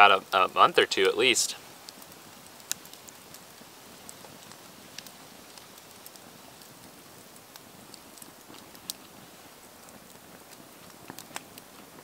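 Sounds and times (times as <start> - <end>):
campfire crackling: 0.0 - 12.0
faint steady hiss: 0.0 - 12.0.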